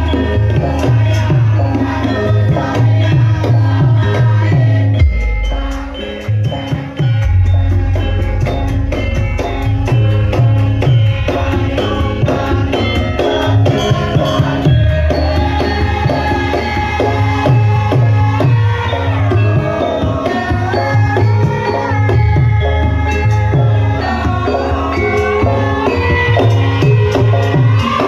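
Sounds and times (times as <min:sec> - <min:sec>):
struck metallophone notes: 0:00.0 - 0:28.0.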